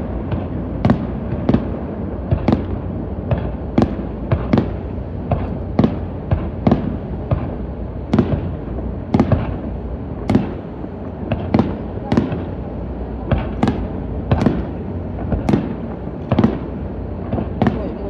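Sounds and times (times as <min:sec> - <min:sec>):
firework shells bursting: 0:00.3 - 0:18.0.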